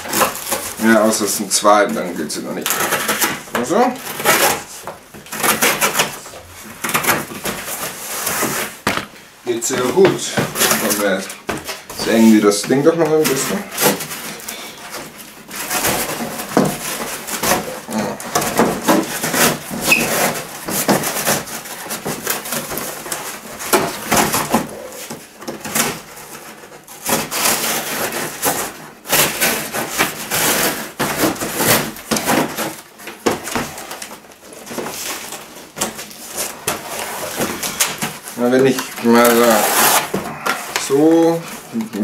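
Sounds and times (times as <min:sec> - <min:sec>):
knife sawing through cardboard: 0:00.0 - 0:08.8, 0:12.0 - 0:42.0.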